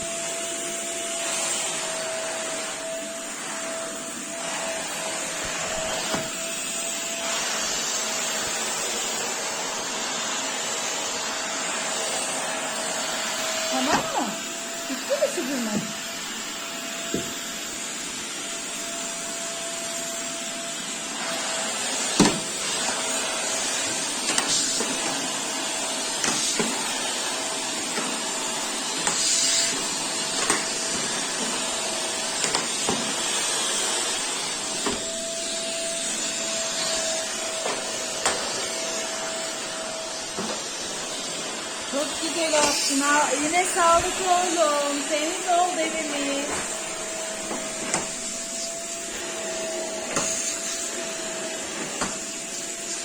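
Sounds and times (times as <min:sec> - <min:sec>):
small vacuum cleaner whining: 0:00.0 - 0:53.0.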